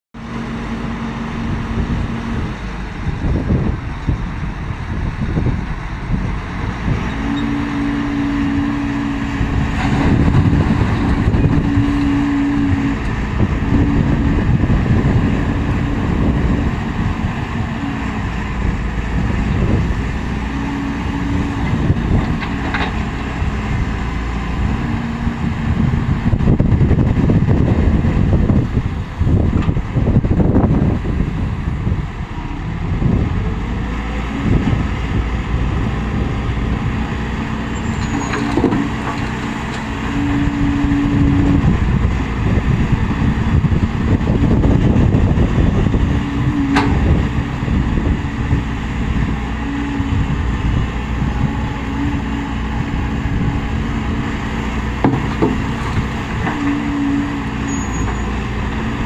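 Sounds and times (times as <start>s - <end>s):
dump truck engine revving: 0.2s - 59.0s.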